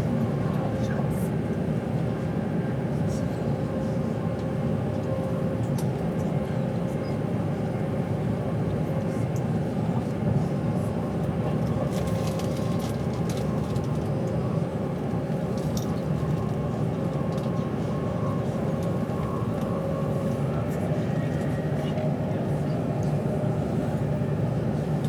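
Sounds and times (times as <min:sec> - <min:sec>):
train rumble from inside: 0:00.0 - 0:25.0.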